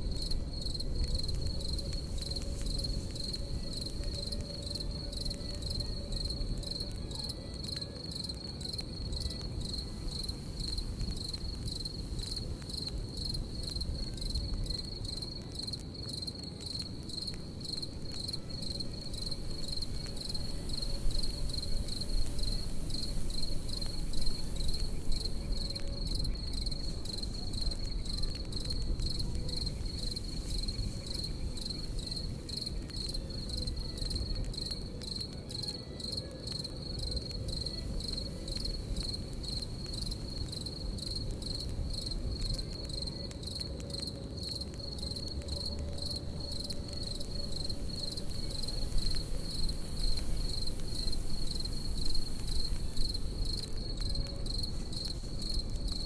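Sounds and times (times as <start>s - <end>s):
campfire crackling and popping: 0.0s - 56.0s
crickets chirping: 0.0s - 56.0s.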